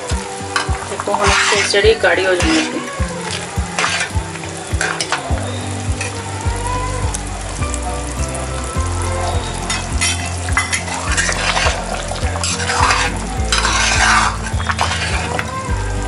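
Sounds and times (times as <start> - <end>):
gravy bubbling in a pan: 0.0 - 16.0.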